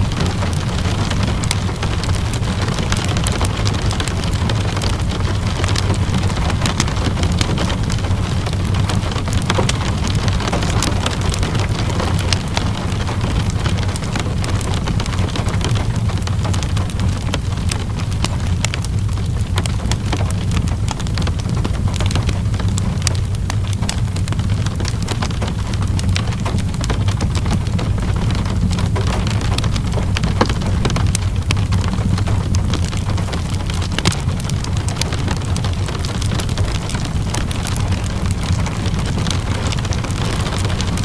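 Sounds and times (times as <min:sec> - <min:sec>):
low rumble: 0:00.0 - 0:41.0
rain hissing: 0:00.0 - 0:41.0
wood fire crackling and popping: 0:00.0 - 0:41.0.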